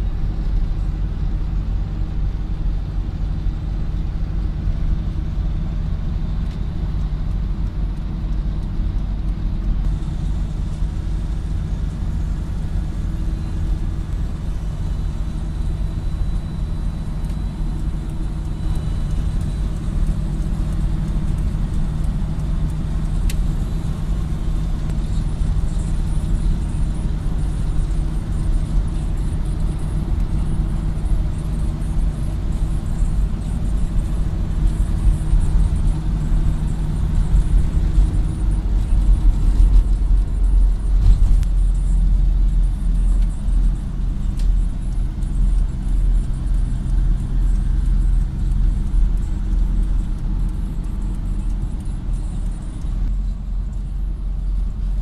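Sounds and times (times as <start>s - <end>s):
low engine hum: 0.0s - 55.0s
road noise rumble: 0.0s - 55.0s.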